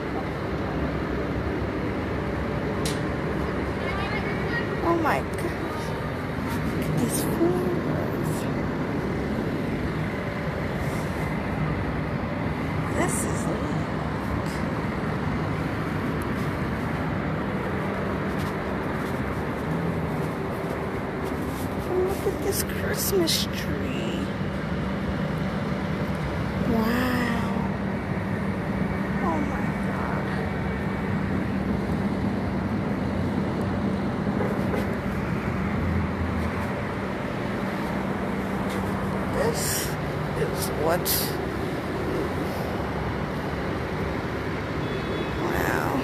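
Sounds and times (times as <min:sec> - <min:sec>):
low steady hum: 0:00.0 - 0:46.0
traffic rumble: 0:00.0 - 0:46.0.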